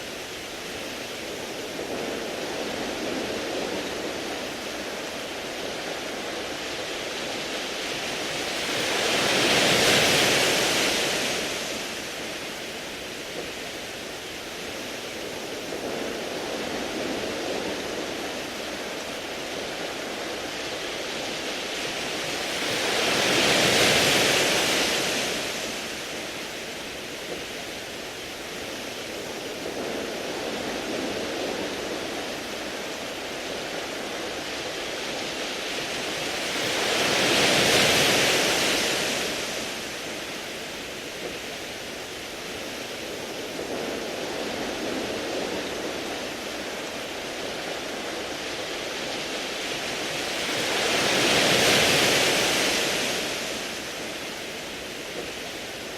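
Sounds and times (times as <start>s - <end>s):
waves washing over pebbles: 0.0s - 55.9s.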